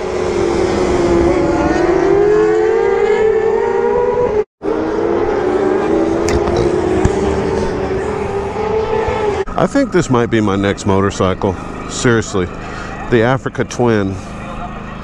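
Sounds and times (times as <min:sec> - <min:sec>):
motorcycle engine whine: 0:00.0 - 0:15.0.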